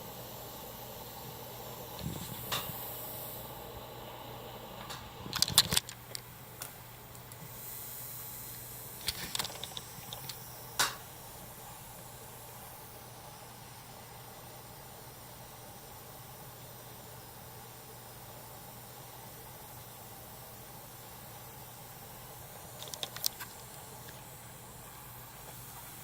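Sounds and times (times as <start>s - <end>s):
hiss: 0.0s - 26.0s
low electrical hum: 0.0s - 26.0s.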